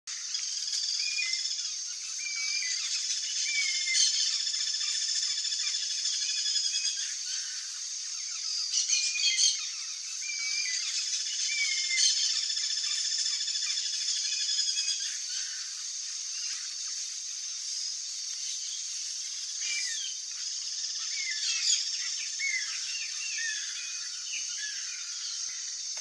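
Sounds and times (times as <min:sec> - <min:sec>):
high background hiss: 0:00.1 - 0:26.0
small birds chirping: 0:00.1 - 0:26.0.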